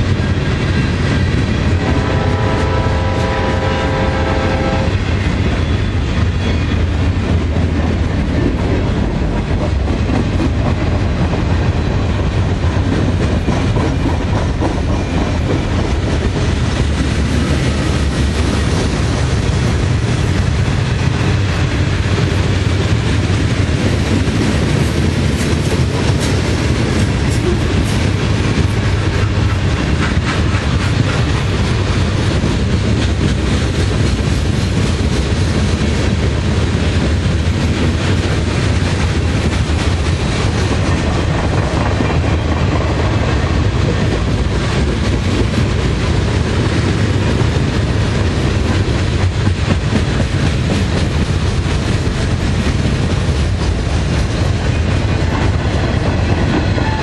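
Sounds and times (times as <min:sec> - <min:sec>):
rumble of train wheels on rails: 0:00.0 - 0:57.0
rapid clicks of wheels on track: 0:04.9 - 0:57.0.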